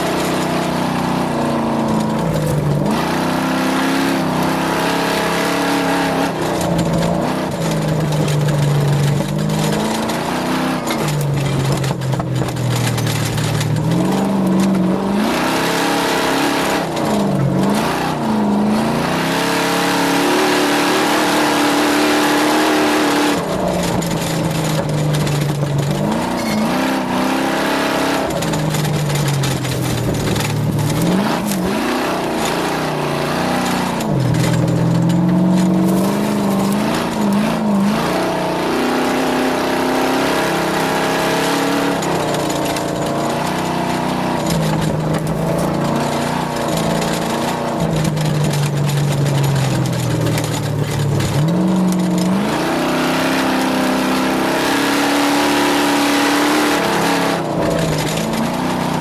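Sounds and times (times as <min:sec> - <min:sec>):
race vehicle engine revving: 0:00.0 - 0:59.0
wind and terrain noise: 0:00.0 - 0:59.0.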